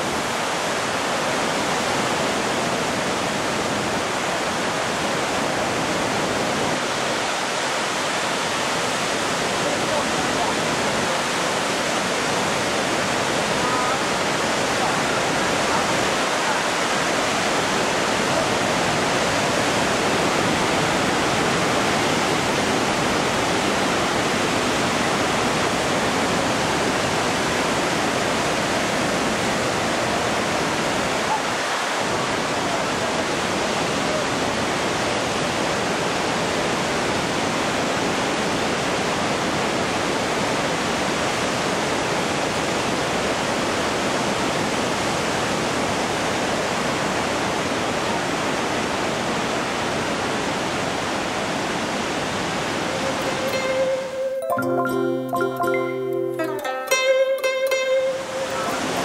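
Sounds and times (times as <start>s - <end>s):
river rushing through rapids: 0.0s - 54.9s, 56.6s - 59.0s.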